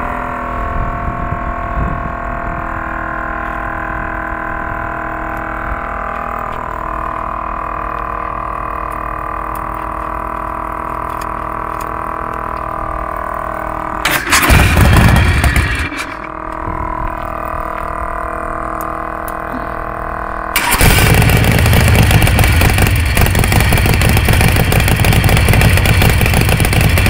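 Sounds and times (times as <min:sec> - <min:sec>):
motorcycle engine idling: 0:03.4 - 0:27.0.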